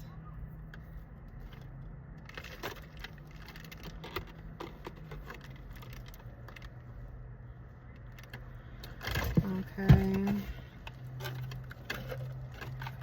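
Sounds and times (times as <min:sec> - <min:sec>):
low steady hum: 0:00.0 - 0:13.0
small items and packaging rustling: 0:00.6 - 0:13.0.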